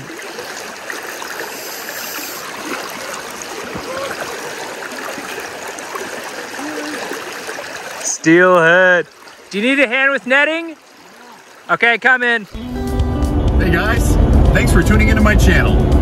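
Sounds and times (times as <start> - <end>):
river current rushing: 0.0 - 14.3.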